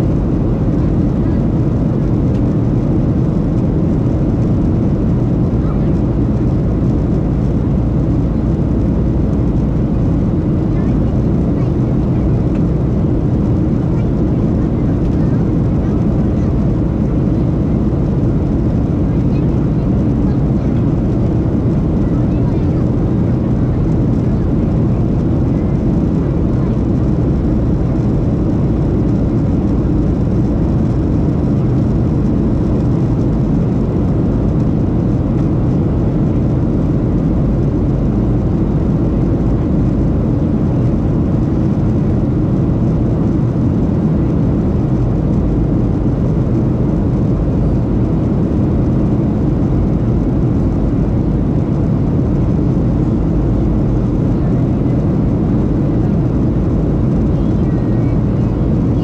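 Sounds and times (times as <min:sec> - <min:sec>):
jet engine rush in cabin: 0:00.0 - 0:59.0.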